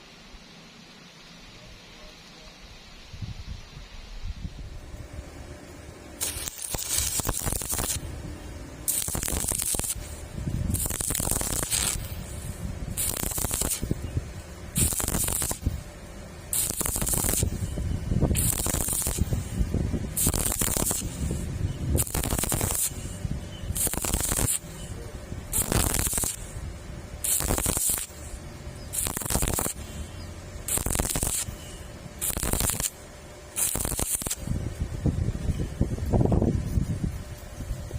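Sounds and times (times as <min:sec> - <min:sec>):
welding arc crackling and hissing: 0:04.7 - 0:35.2.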